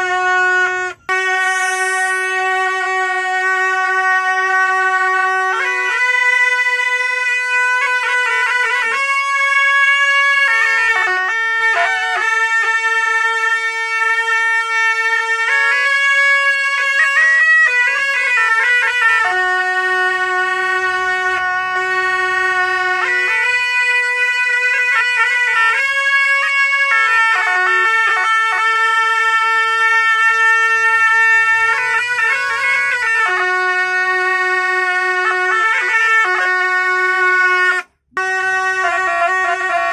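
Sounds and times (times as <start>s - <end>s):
reedy double-reed horns: 0.0s - 39.9s.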